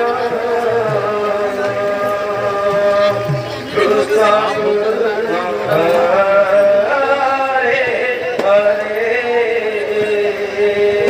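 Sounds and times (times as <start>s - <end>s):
man singing devotional chant: 0.0s - 11.0s.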